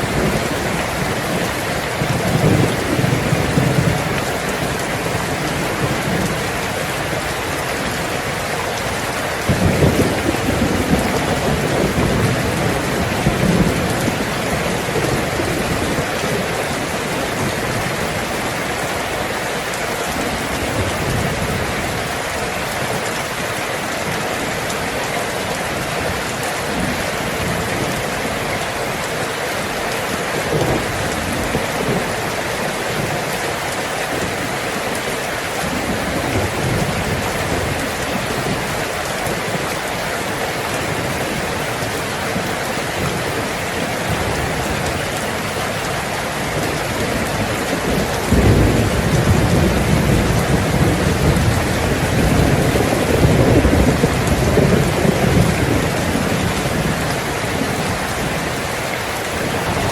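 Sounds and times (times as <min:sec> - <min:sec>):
heavy rain on a tin roof: 0:00.0 - 0:59.9
thunder rumbling: 0:00.0 - 0:59.9.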